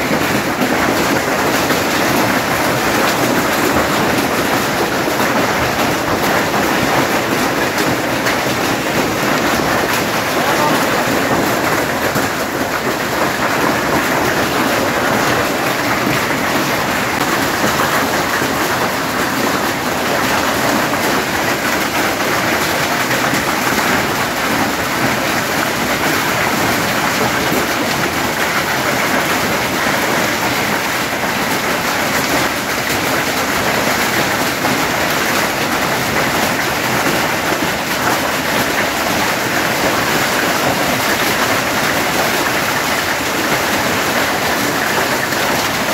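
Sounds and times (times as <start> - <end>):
rain and hail on tin: 0.0 - 45.9.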